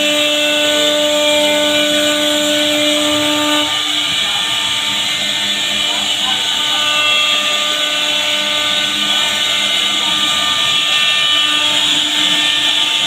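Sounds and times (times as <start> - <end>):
hiss of wood cutting: 0.0 - 13.0
router spindle whine: 0.0 - 13.0.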